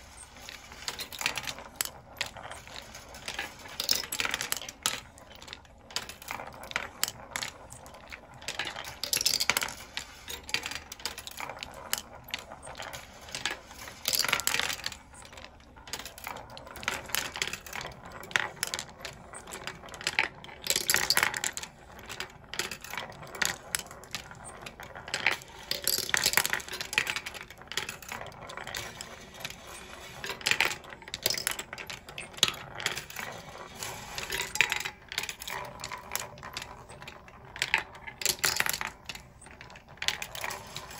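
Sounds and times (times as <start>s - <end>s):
marbles clicking through wooden tracks: 0.0s - 40.9s
marbles rattling: 0.0s - 40.9s.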